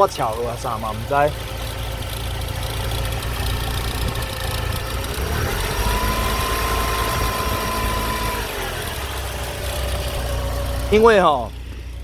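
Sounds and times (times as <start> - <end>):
car engine idling: 0.0 - 12.0
high engine whine: 0.0 - 12.0.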